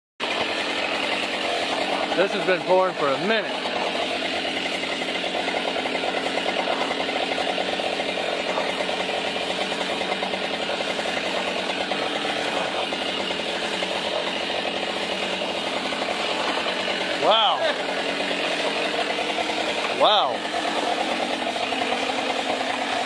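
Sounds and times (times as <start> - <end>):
engine idling: 0.2 - 23.0
water gushing from tree: 0.2 - 23.0.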